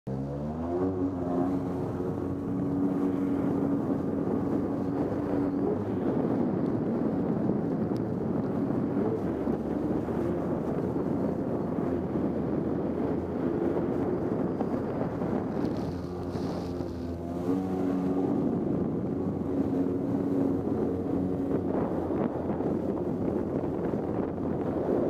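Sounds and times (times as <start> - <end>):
water rushing: 0.1 - 6.4, 7.6 - 24.9
watercraft engine at speed: 0.1 - 25.0
wind on microphone: 0.1 - 25.0.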